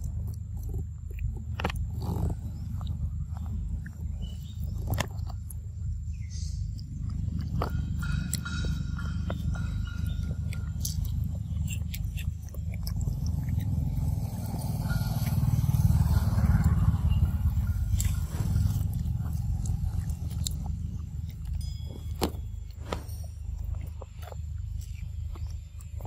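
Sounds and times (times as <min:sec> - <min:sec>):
monkey chewing fruit: 0:00.0 - 0:26.0
steady low rumble: 0:00.0 - 0:26.0.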